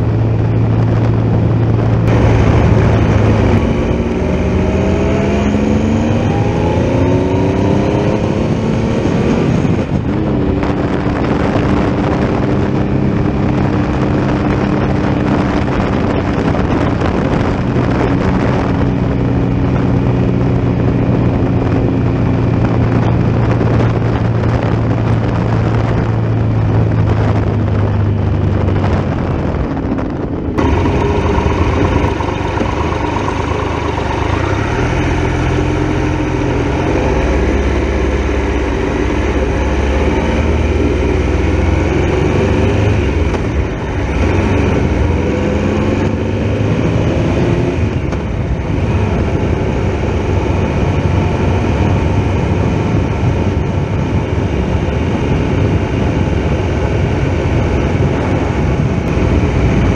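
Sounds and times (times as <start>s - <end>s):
motorcycle engine accelerating: 0.0s - 59.9s
wind and road rush: 0.0s - 59.9s.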